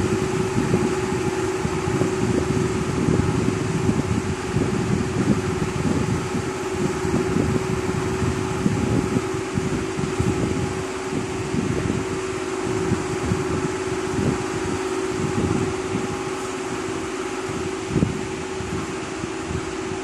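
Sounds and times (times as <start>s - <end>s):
lathe motor hum: 0.0s - 20.0s.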